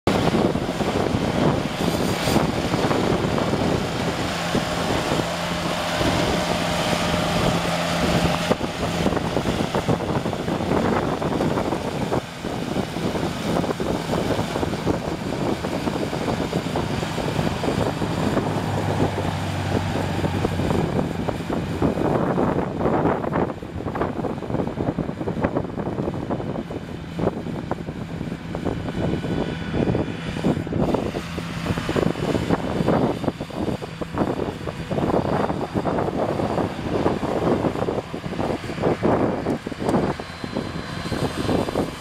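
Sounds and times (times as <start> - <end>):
mower cutting tall grass: 0.1 - 42.0
tractor engine running under load: 0.1 - 42.0.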